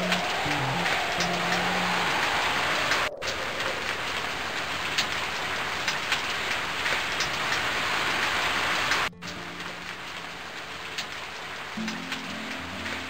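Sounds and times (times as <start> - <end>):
heavy rain: 0.0 - 13.0
raindrop ticks: 0.0 - 13.0.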